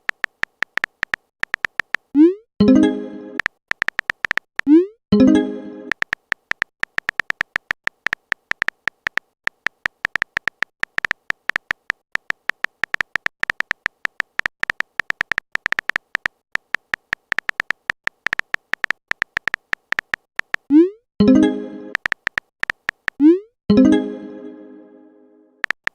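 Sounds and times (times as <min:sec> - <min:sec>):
electronic typing clicks: 0:00.0 - 0:23.8, 0:25.6 - 0:25.9.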